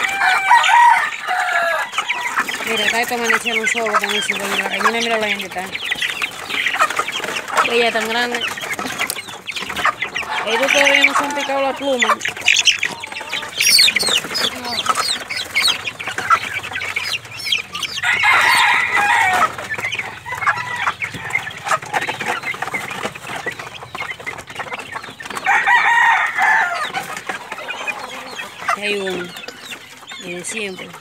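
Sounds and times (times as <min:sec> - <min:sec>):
chicks peeping and clucking: 0:00.0 - 0:31.0.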